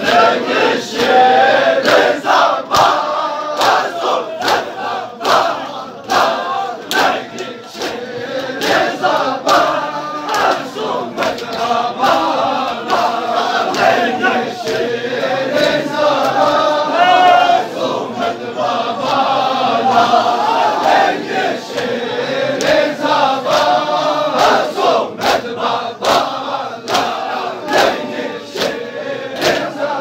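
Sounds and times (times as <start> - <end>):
rhythmic chest-beating strikes: 0.0 - 16.8, 20.8 - 30.0
crowd of men chanting: 0.0 - 30.0.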